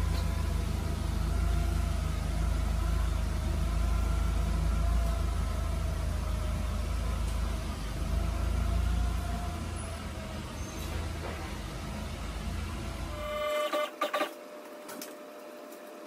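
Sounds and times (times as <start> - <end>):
forklift engine running: 0.0 - 14.4.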